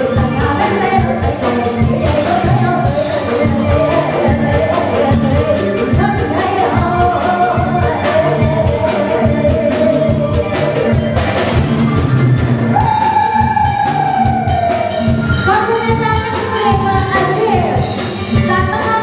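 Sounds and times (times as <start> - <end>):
drum kit beat: 0.0 - 19.0.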